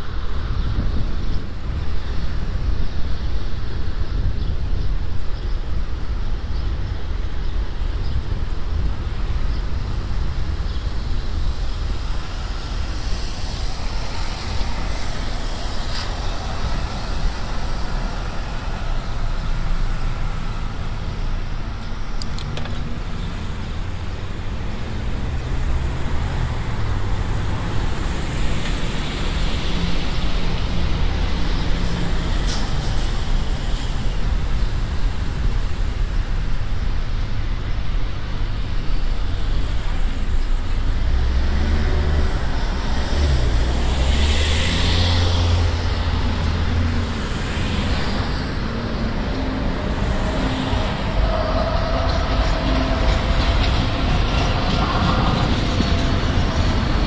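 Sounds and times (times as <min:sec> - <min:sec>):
traffic rumble: 0:00.0 - 0:57.0
vehicles passing: 0:00.0 - 0:57.0.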